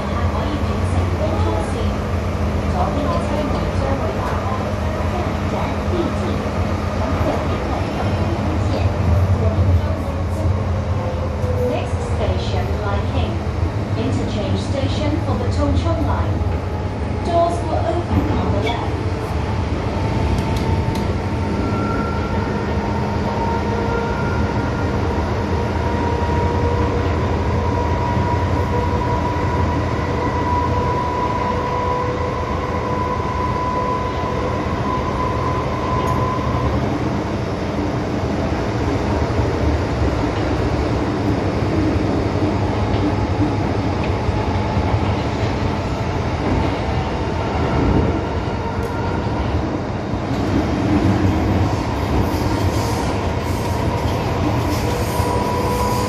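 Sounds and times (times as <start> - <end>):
metro train wheels rumbling: 0.0 - 56.0.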